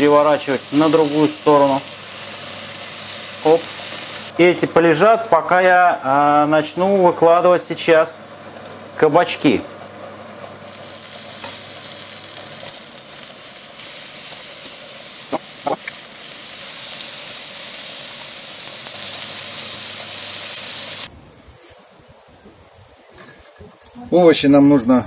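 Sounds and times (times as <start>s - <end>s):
vegetables sizzling on grill pan: 0.0s - 21.1s.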